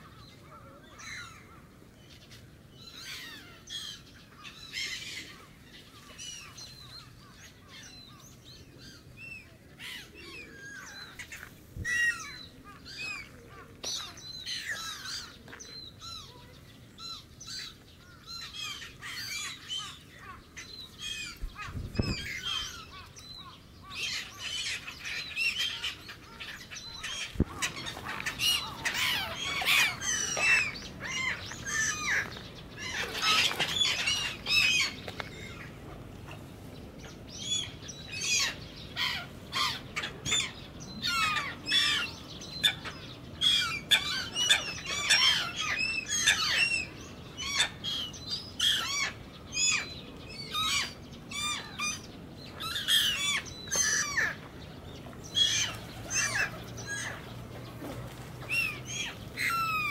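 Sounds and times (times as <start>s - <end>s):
gulls calling: 0.0s - 59.9s.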